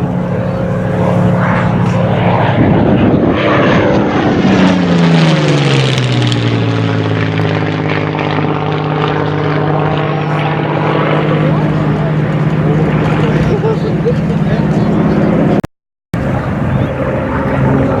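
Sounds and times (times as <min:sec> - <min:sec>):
propeller aircraft flying past: 0:00.0 - 0:15.6, 0:16.2 - 0:18.0.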